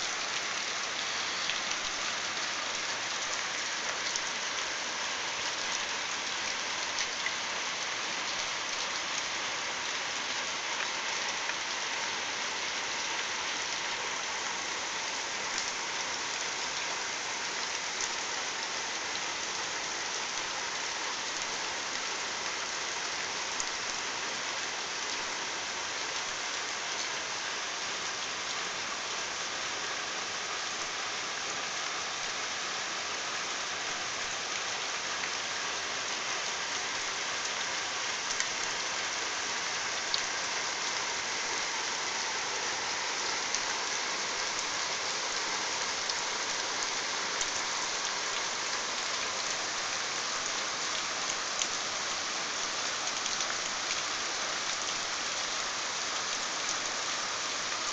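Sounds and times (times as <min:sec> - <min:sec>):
heavy rain on trees and roofs: 0:00.0 - 0:57.9.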